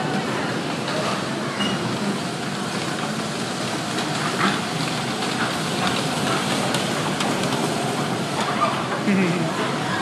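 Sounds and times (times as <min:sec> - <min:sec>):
bumper cars rolling on metal floor: 0:00.0 - 0:10.0.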